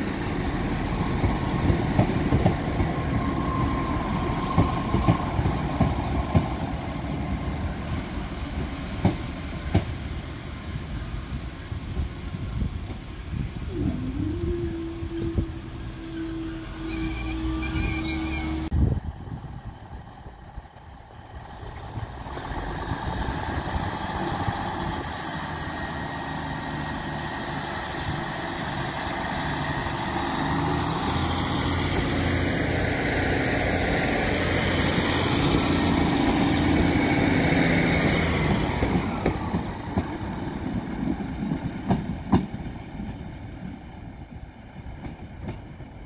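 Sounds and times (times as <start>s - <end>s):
diesel train engines revving: 0.0s - 46.0s.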